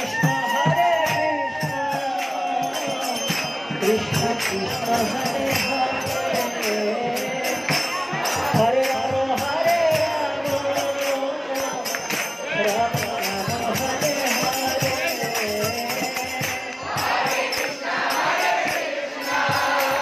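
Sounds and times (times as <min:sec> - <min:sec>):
jingling hand cymbals: 0:00.0 - 0:20.0
voices singing a chant: 0:00.0 - 0:20.0.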